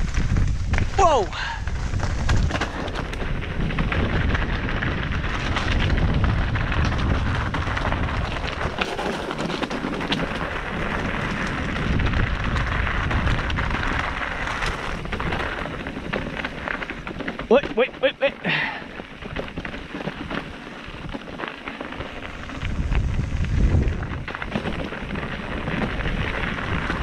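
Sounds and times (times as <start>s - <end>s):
bike rattling knocks and clicks: 0.0s - 27.0s
tyres crunching over gravel: 0.0s - 27.0s
wind rumble on microphone: 0.0s - 27.0s.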